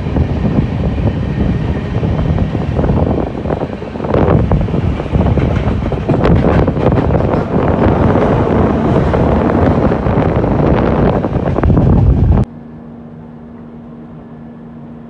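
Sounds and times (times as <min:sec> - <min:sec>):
train wheels clattering over track: 0:00.0 - 0:12.5
wind buffeting microphone: 0:00.0 - 0:12.5.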